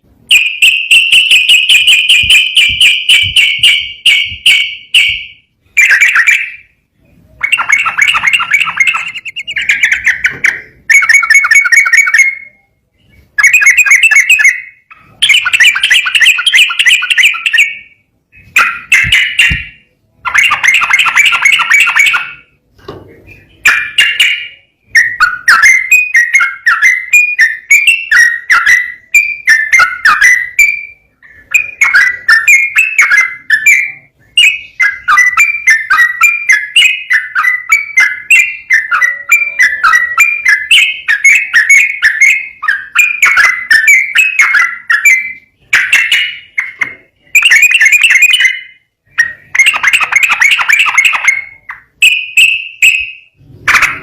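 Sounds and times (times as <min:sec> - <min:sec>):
bird singing warbling phrases: 0:00.2 - 0:54.0.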